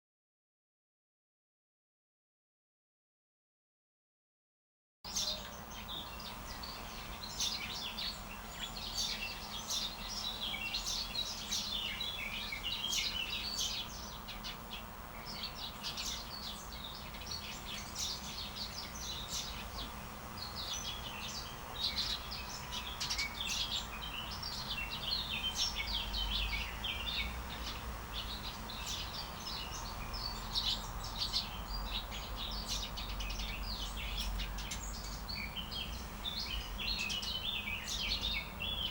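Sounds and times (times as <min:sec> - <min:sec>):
songbirds chirping: 0:05.1 - 0:38.9.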